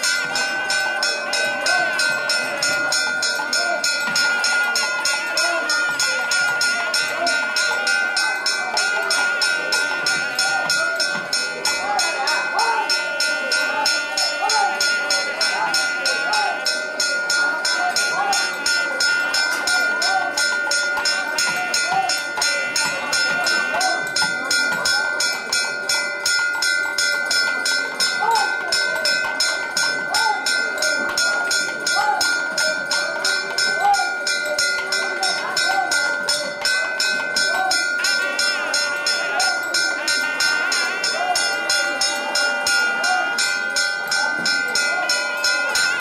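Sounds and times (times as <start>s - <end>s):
bell rung rapidly: 0.0s - 46.0s
steady bell ringing tone: 0.0s - 46.0s.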